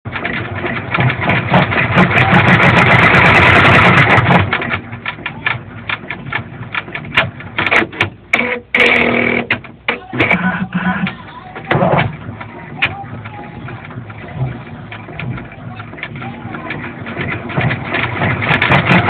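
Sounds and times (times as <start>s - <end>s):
embroidery machine running: 0.1s - 19.0s.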